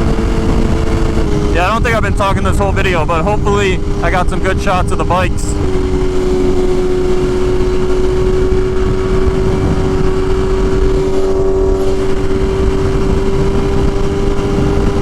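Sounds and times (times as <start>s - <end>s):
motorcycle engine steady tone: 0.0s - 15.0s
road rumble: 0.0s - 15.0s
wind on microphone: 0.0s - 15.0s.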